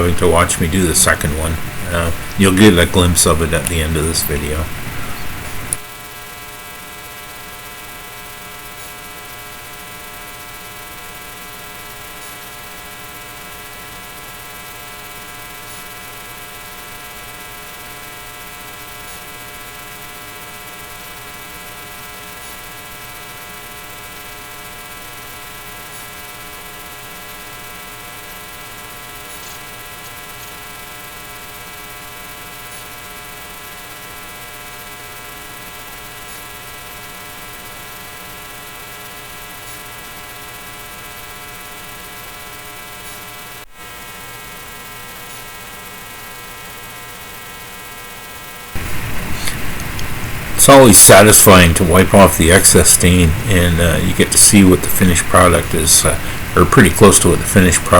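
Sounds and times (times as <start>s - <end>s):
steady electrical hum: 0.0s - 42.9s, 44.3s - 57.9s.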